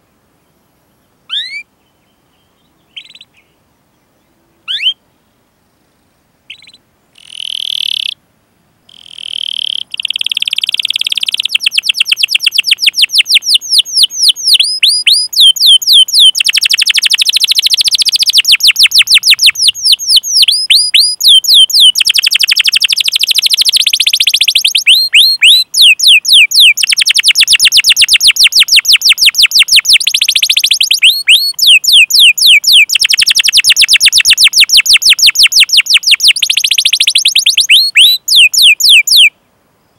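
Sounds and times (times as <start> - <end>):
canary singing trills: 1.3 - 3.6, 4.2 - 5.0, 6.5 - 8.2, 8.9 - 39.3.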